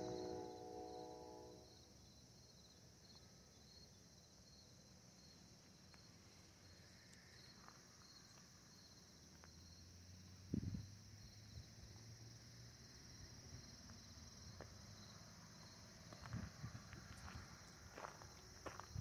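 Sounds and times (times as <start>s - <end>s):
crickets chirping: 0.0s - 19.0s
high insect drone: 0.0s - 19.0s.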